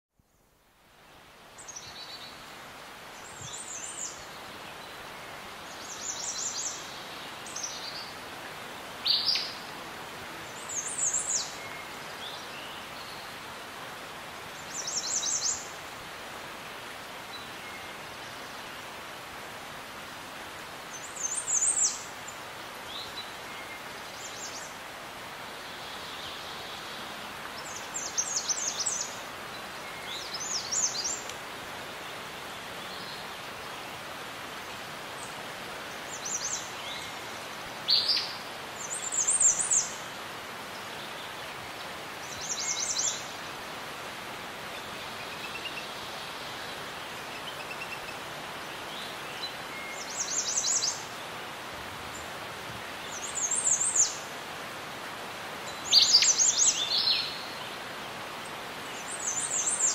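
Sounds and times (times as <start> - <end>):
steady background hiss: 0.2 - 59.9.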